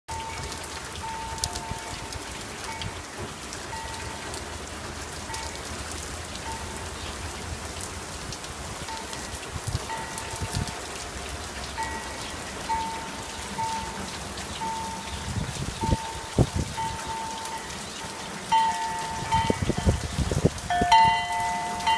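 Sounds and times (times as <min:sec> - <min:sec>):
steady rain: 0:00.1 - 0:21.9.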